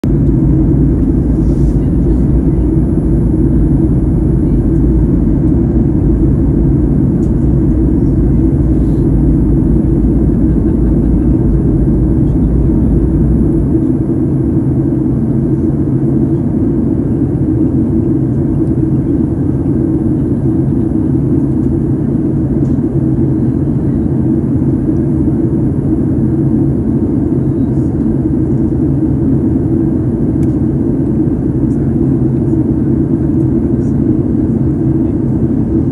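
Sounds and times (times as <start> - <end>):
jet airliner cabin roar: 0.0 - 35.9.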